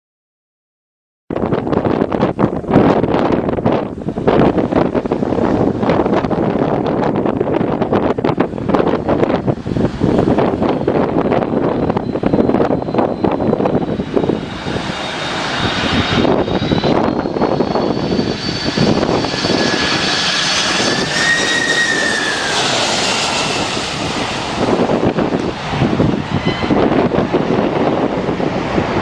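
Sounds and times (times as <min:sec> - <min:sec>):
jet aircraft passing by: 0:01.6 - 0:29.0.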